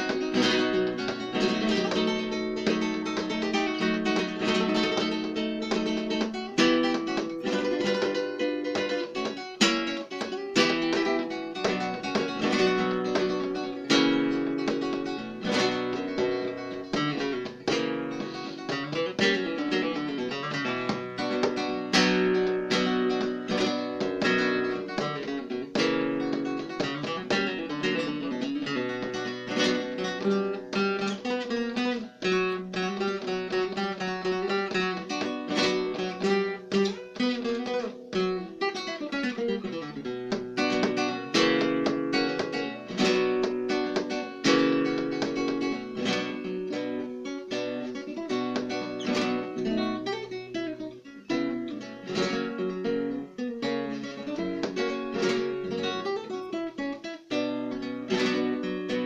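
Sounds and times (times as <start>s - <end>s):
flamenco guitar: 0.0s - 59.0s.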